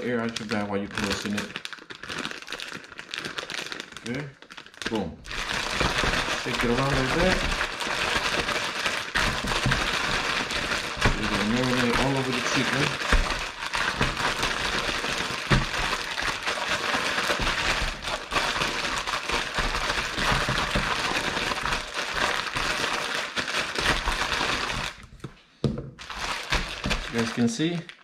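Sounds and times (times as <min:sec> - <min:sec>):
plastic bag crinkling: 0:00.0 - 0:25.2, 0:26.0 - 0:28.0.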